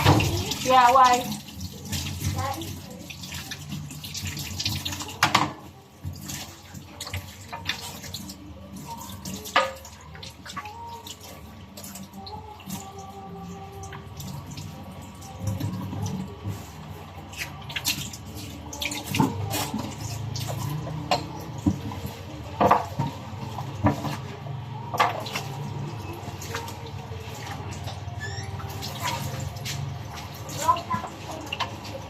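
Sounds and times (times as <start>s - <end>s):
water running at a sink: 0.0s - 32.0s.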